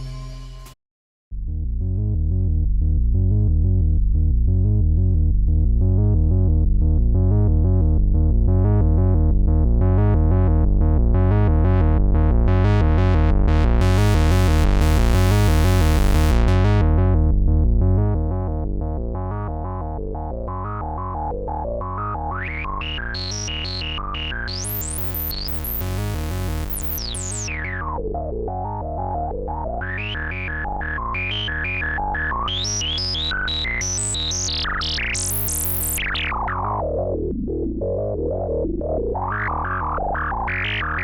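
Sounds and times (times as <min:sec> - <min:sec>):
synthesizer bass pattern: 0:01.8 - 0:41.0.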